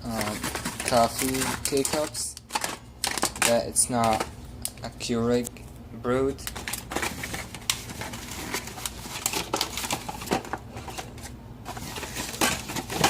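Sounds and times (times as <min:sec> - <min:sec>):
packaging crinkling: 0:00.0 - 0:04.3, 0:06.4 - 0:13.0.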